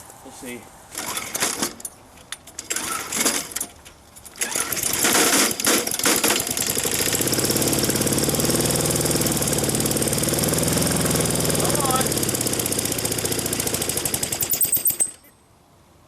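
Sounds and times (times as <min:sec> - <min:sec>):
lawn mower engine running: 0:00.9 - 0:15.3
lawn mower pull-start cranking: 0:00.9 - 0:15.3.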